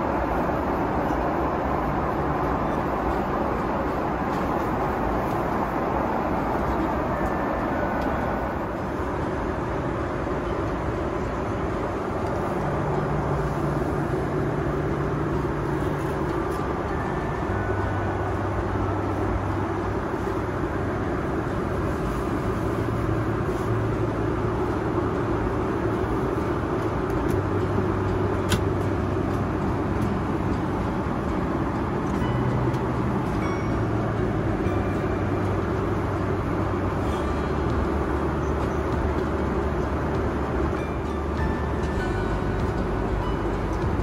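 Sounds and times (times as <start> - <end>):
airplane cabin airflow and engine noise: 0.0 - 44.0.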